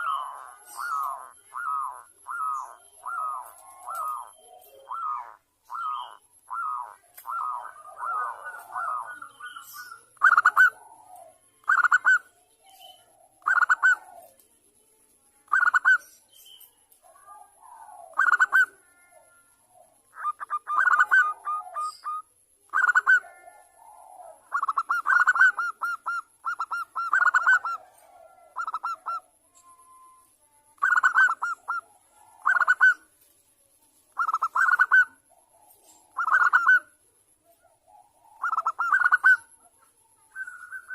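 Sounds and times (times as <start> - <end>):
dove cooing: 0.0 - 14.4, 15.5 - 16.0, 17.0 - 30.2, 30.8 - 33.1, 34.1 - 40.9.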